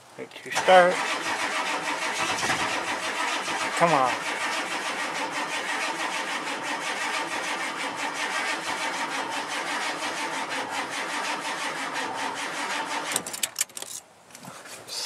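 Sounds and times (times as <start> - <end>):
starter cranking diesel engine: 0.6 - 13.6.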